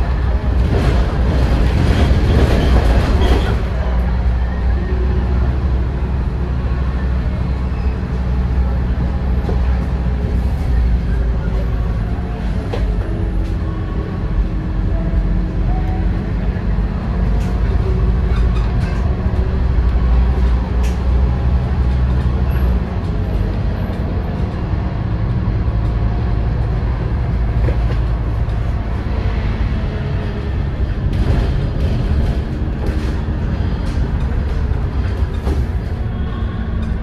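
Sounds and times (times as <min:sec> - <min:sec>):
diesel bus engine drone: 0:00.0 - 0:37.0
road noise: 0:00.0 - 0:37.0.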